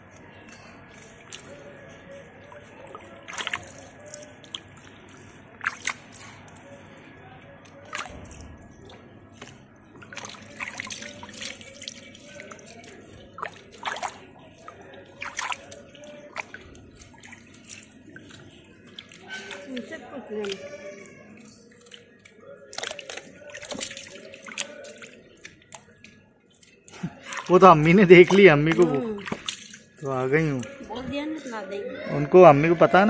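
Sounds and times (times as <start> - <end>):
water splashing and dripping: 0.1 - 31.1.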